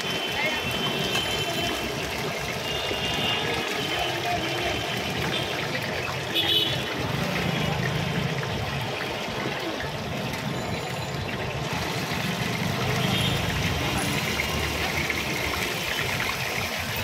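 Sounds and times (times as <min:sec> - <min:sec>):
chicken sizzling in hot oil: 0:00.3 - 0:17.0.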